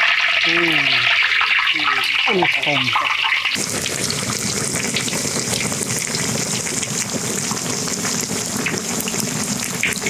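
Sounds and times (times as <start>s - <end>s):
oil sizzling while deep-frying: 0.0s - 10.0s.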